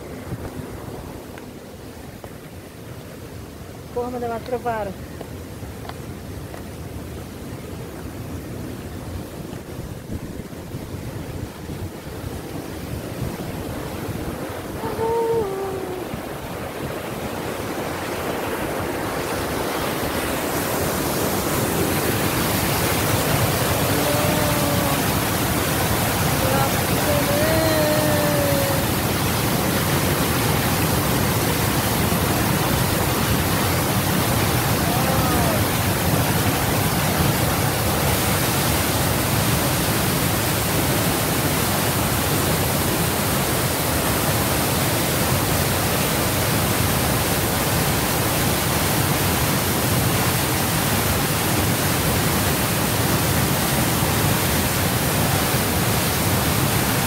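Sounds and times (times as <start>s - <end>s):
white water rushing down concrete channel: 0.0s - 57.0s.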